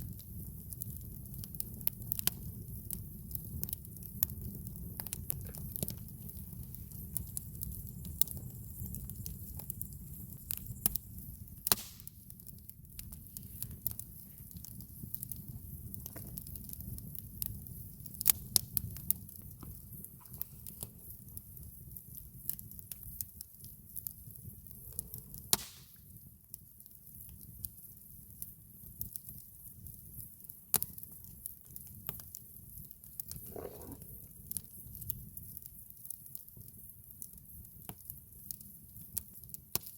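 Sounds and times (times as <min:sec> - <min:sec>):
campfire wood crackling: 0:00.0 - 0:39.9.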